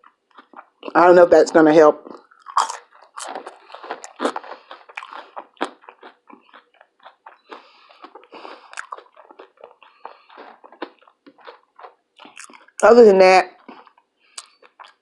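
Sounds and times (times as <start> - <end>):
person chewing food crunchily: 0.0 - 1.1, 2.0 - 12.8, 13.5 - 15.0
wet mouth clicks: 2.0 - 12.8, 13.6 - 15.0.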